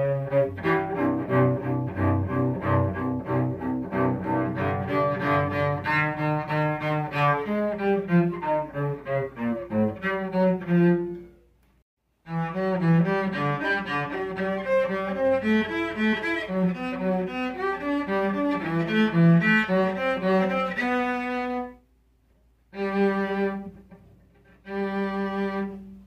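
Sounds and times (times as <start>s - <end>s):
bowed cello: 0.0s - 11.4s, 12.2s - 21.8s, 22.7s - 26.0s.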